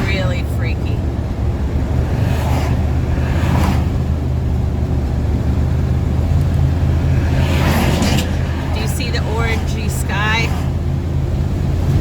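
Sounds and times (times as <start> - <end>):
engine and road noise drone: 0.0 - 12.0.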